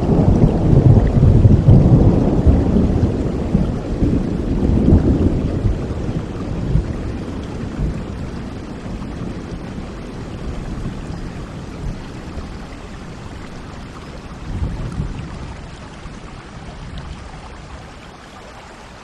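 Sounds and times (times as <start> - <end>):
low rumble of thunder: 0.0 - 18.1
steady rain: 0.0 - 19.0.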